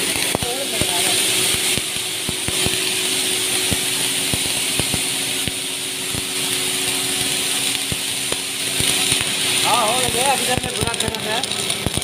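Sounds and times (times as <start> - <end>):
machinery hum and hiss: 0.0 - 12.0.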